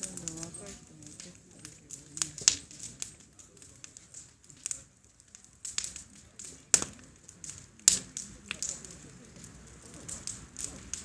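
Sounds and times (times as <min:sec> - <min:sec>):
sharp pops of fire: 0:00.0 - 0:11.0
wood bonfire crackling: 0:00.0 - 0:11.0.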